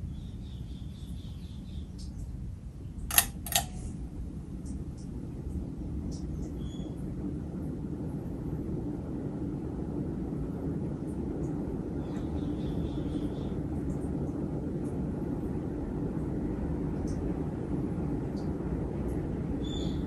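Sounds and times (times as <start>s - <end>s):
ceiling fan whoosh: 3.4s - 20.0s.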